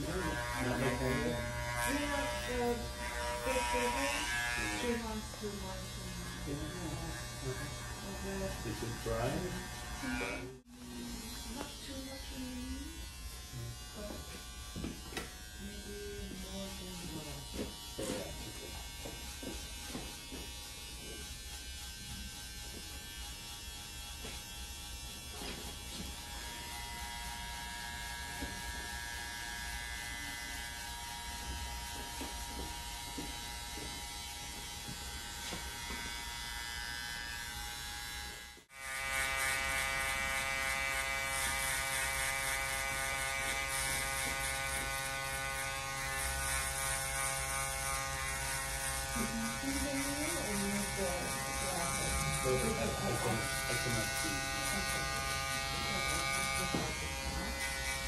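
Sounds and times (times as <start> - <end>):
electric foil shaver buzz: 0.0 - 58.0
electric hair trimmer buzzing: 0.0 - 58.0.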